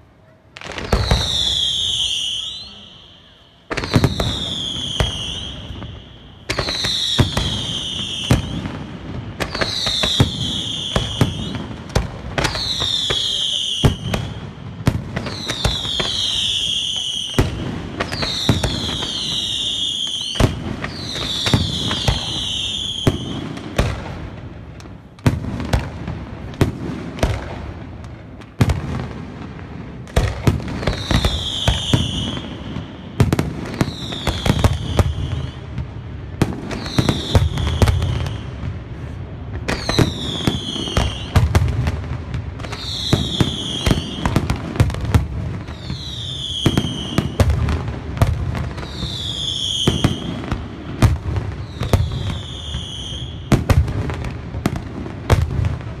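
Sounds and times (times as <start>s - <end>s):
fireworks bangs and crackles: 0.0s - 56.0s
fireworks whistles falling in pitch: 0.6s - 23.9s, 30.2s - 55.8s.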